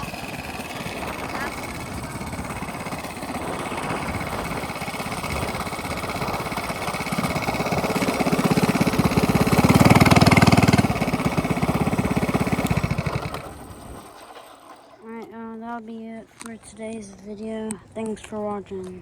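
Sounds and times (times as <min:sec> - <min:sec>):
minibike engine running: 0:00.0 - 0:15.5.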